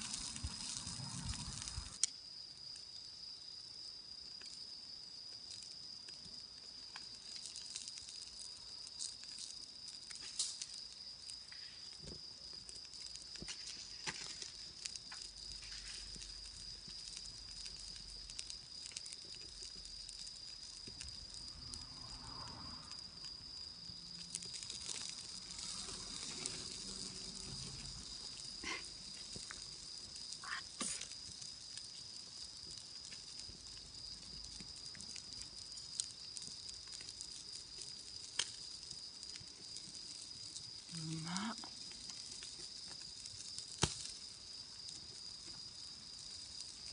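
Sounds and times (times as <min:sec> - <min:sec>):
campfire snaps and crackles: 0:00.0 - 0:46.9
insects chirring: 0:00.0 - 0:46.9.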